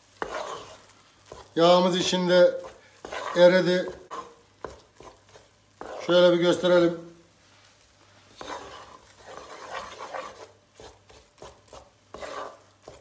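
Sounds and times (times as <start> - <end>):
wooden spoon scraping a pot: 0.0 - 6.8, 8.2 - 13.0.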